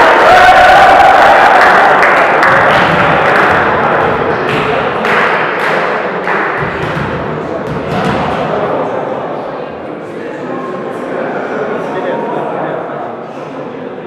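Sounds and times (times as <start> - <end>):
crowd noise in a hall: 0.0 - 14.0.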